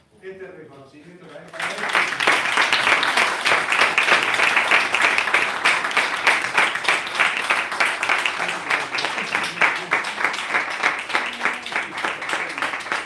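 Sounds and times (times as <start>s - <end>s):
audience applauding: 1.5s - 13.0s.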